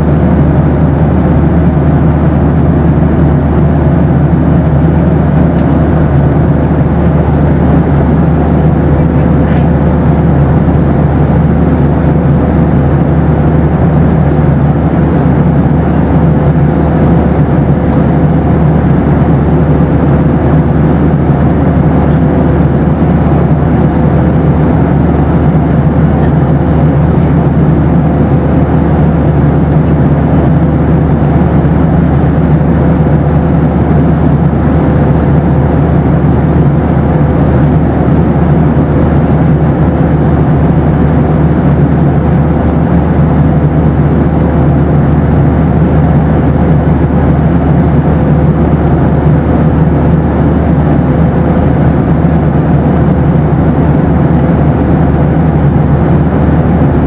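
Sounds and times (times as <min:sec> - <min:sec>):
airliner cabin noise roar: 0:00.0 - 0:57.0.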